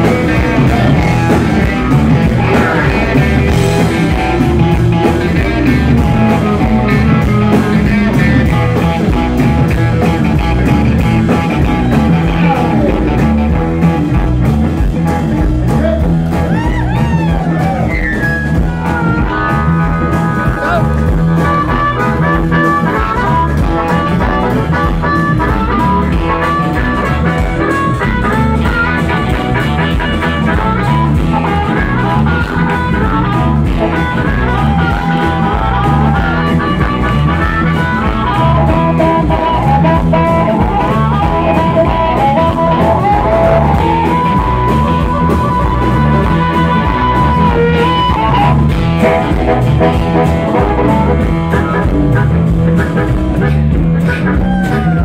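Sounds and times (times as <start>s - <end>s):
drums steady beat: 0.0s - 55.0s
electric guitar lead lines: 0.0s - 55.0s.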